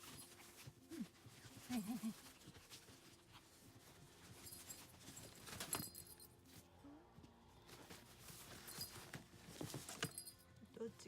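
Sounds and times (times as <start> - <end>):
puppies rustling with toys: 0.0 - 11.0.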